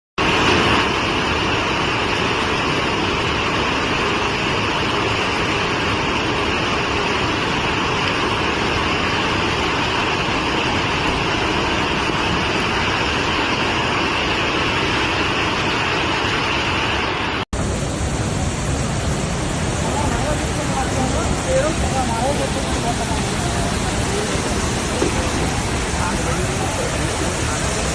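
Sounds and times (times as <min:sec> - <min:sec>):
floodwater rushing: 0:00.2 - 0:27.9.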